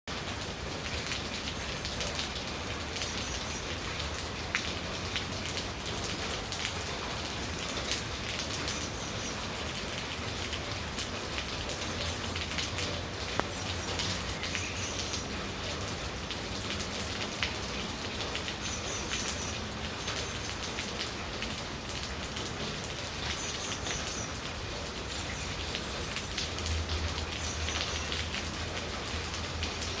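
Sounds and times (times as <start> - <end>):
rain falling: 0.1 - 30.0.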